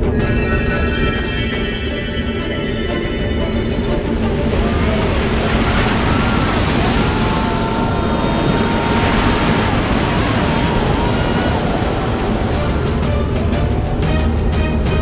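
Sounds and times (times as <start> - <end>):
faint wavering high tones: 0.0 - 13.9
flood water rushing: 2.9 - 15.0.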